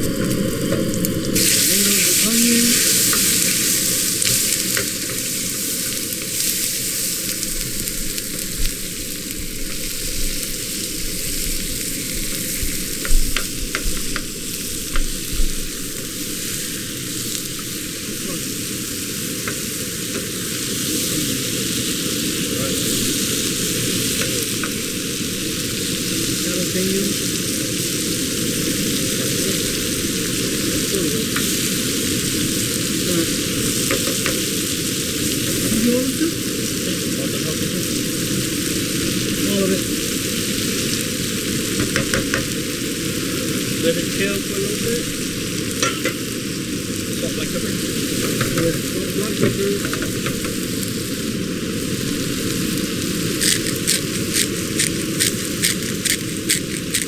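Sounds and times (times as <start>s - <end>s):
vegetables sizzling in oil: 0.0s - 57.0s.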